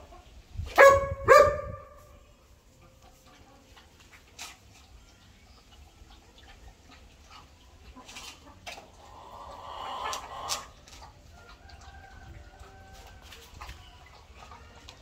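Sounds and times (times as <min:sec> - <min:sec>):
chickens clucking: 0:00.0 - 0:00.8, 0:02.0 - 0:15.0.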